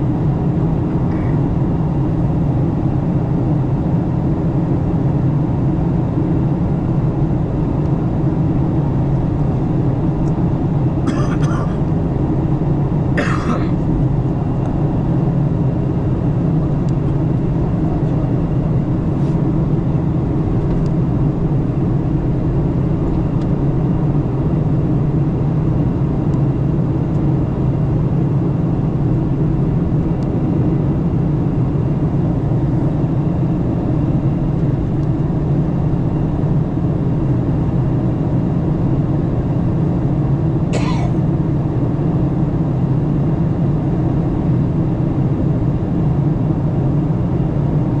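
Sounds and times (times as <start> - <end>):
jet cabin drone: 0.0 - 48.0.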